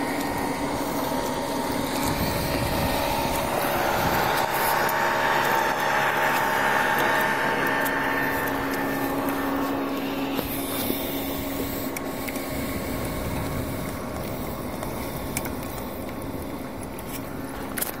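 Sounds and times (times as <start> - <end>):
low hum: 0.0 - 18.0
wind buffeting microphone: 0.0 - 18.0.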